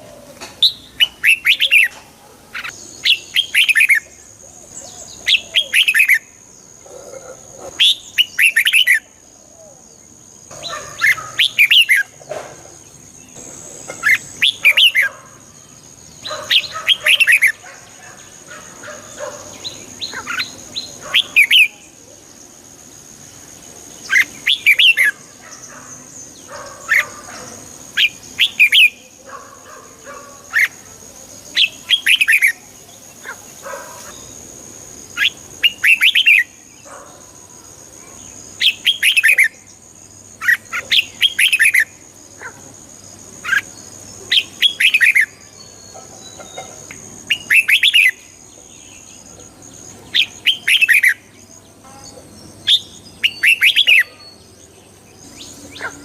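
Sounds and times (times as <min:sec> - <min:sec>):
bulbuls singing: 0:00.0 - 0:56.0.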